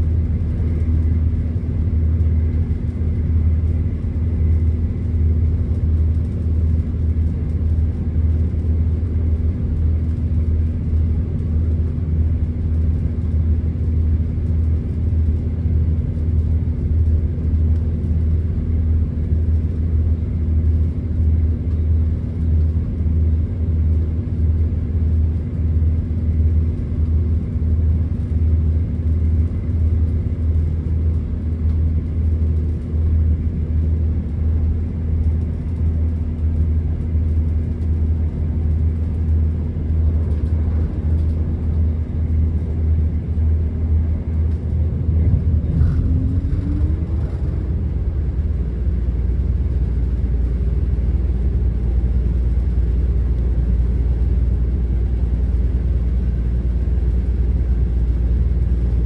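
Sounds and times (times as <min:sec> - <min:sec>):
diesel train engine drone: 0:00.0 - 0:59.0.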